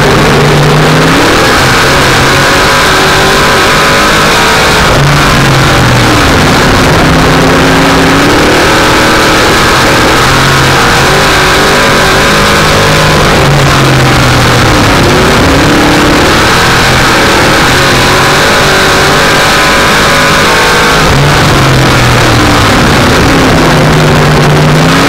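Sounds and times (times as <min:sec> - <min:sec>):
race car engine at full throttle: 0:00.0 - 0:25.0.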